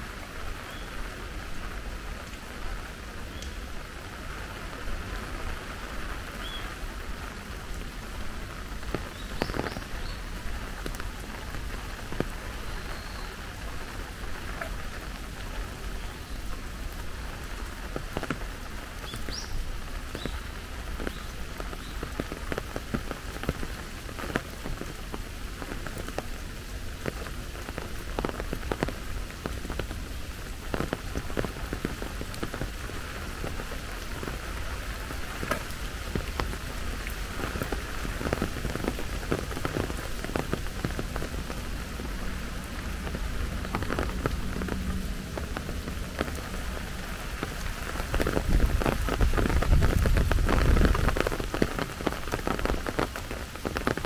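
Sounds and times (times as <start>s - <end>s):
close raindrops striking: 0.0s - 54.0s
rain falling: 0.0s - 54.0s.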